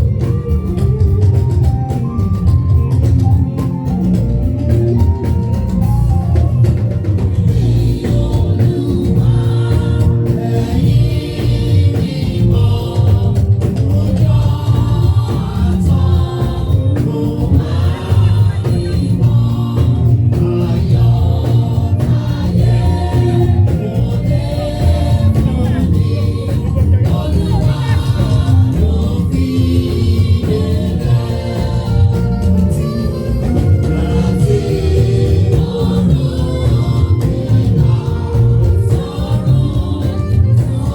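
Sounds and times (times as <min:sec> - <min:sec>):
gospel group singing: 0:00.0 - 0:40.9
heavy bass accompaniment: 0:00.0 - 0:40.9.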